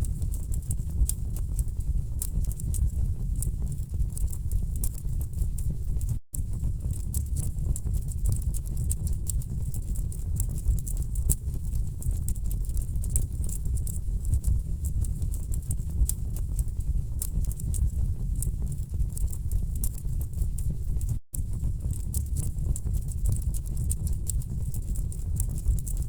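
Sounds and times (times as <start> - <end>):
low rumble of flames: 0.0 - 26.0
fire crackling and popping: 0.1 - 26.0.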